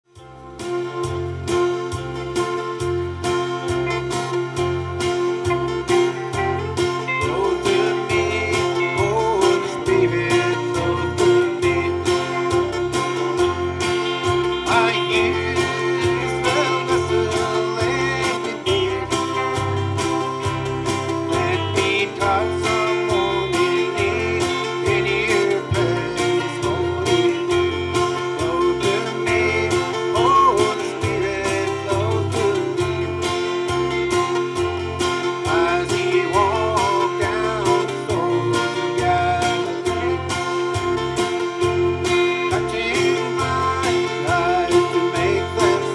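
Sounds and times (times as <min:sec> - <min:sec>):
bass line: 0:00.0 - 0:45.9
acoustic guitar strumming: 0:00.1 - 0:45.9
man singing: 0:06.0 - 0:20.2, 0:21.0 - 0:34.3, 0:35.1 - 0:45.9.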